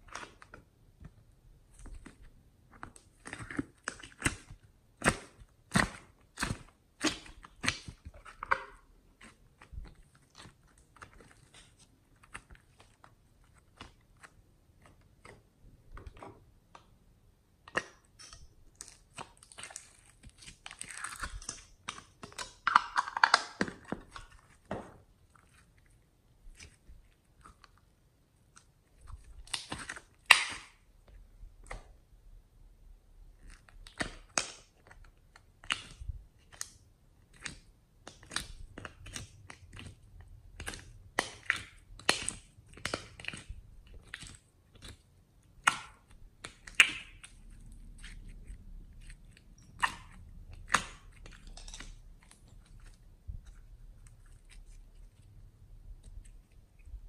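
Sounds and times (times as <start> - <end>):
slime squishing and popping: 2.8 - 16.5, 17.6 - 25.7, 28.4 - 32.0, 33.3 - 57.0.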